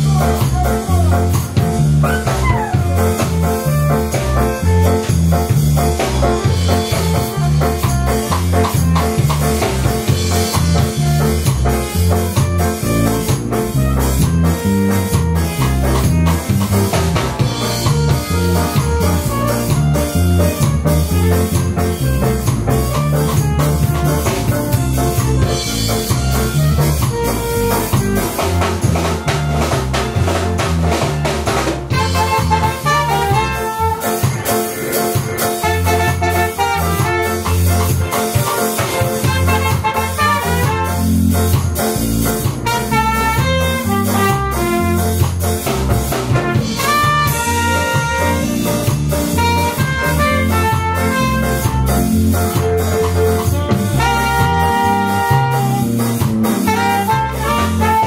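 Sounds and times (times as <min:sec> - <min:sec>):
live band instrumental: 0:00.0 - 0:58.0
trumpet: 0:05.8 - 0:58.0.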